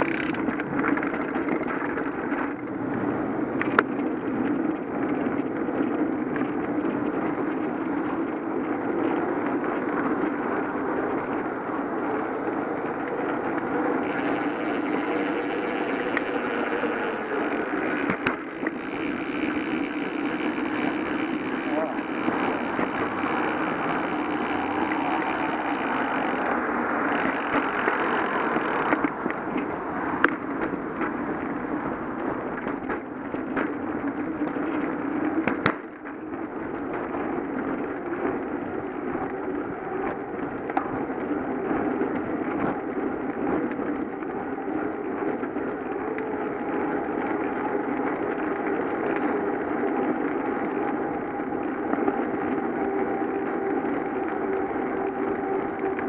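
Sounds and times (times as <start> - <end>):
bicycle clicks and rattles: 0.0 - 56.0
bicycle tyre and wind noise: 0.0 - 56.0.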